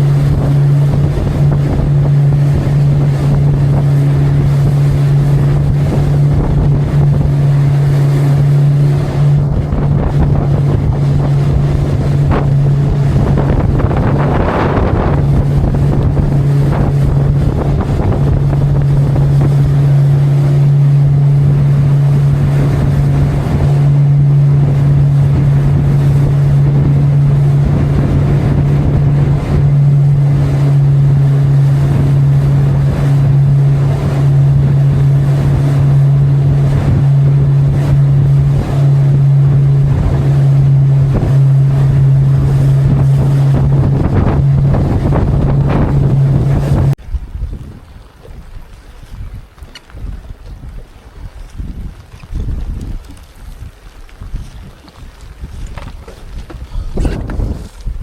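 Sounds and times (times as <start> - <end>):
motorboat engine droning: 0.0 - 58.0
wind and water rushing: 0.0 - 58.0.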